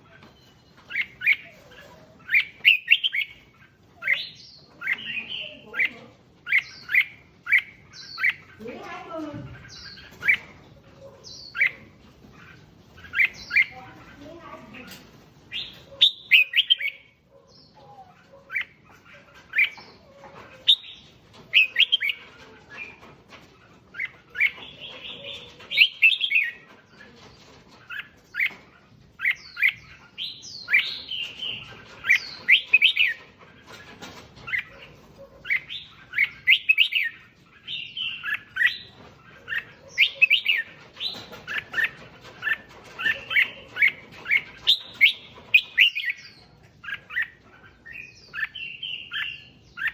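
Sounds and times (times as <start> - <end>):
bird singing chirping phrases: 0.0 - 49.9.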